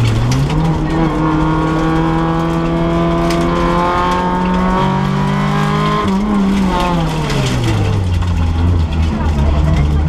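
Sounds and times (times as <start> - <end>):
rally car engine from inside cabin: 0.0 - 10.0.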